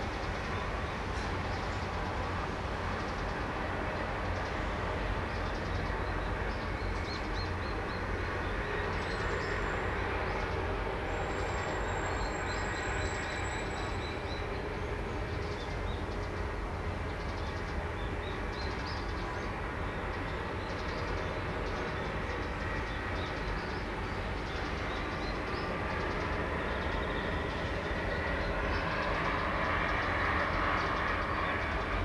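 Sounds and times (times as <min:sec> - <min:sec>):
continuous low rumble: 0:00.0 - 0:32.0.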